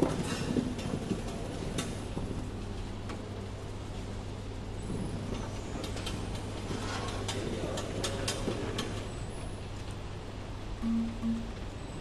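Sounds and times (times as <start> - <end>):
machine motor hum: 1.4 - 12.0.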